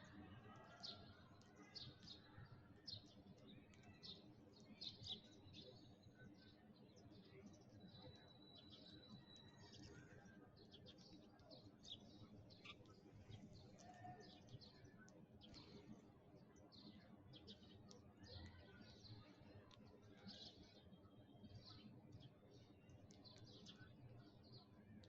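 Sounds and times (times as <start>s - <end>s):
sparrows chirping: 0.9s - 25.0s.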